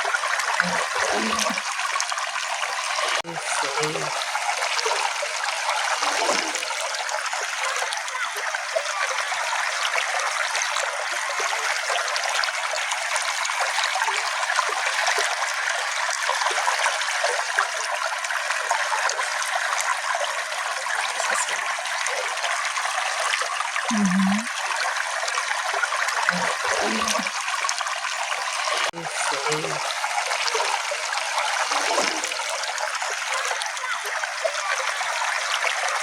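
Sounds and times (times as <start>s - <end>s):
stream trickling over stones: 0.0s - 36.0s.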